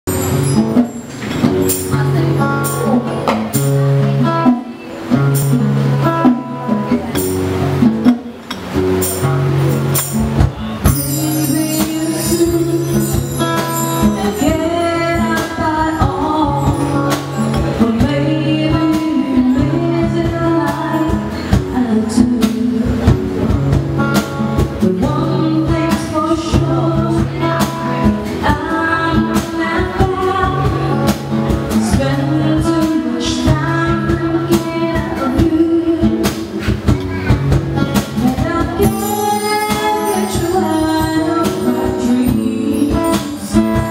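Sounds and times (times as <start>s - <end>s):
hand percussion: 0.0s - 3.7s, 6.3s - 43.9s
woman singing into a microphone: 0.1s - 8.3s, 10.8s - 43.9s
strummed acoustic guitar: 0.1s - 43.9s.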